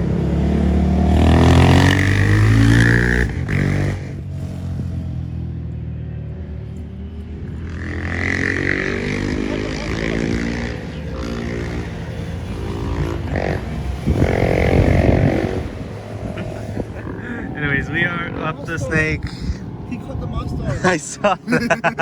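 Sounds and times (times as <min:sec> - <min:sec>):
vehicle engines droning: 0:00.0 - 0:22.0
vehicles passing by: 0:00.0 - 0:22.0.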